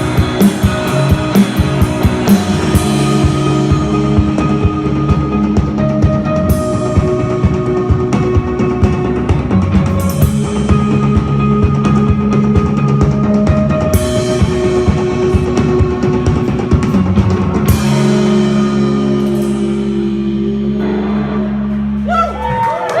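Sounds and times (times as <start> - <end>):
held guitar chord ringing: 0.0 - 22.4
live rock band playing: 0.0 - 22.9
drum kit: 0.0 - 23.0.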